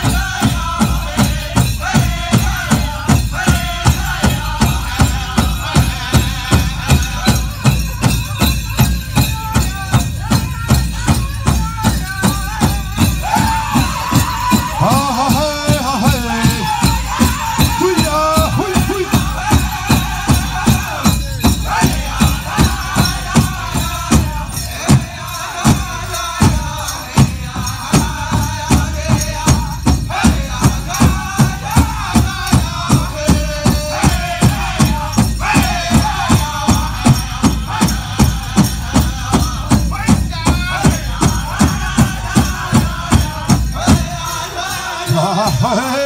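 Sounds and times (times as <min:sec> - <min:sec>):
big drum steady fast beat: 0:00.0 - 0:46.0
group singing in high wavering style: 0:00.0 - 0:46.0.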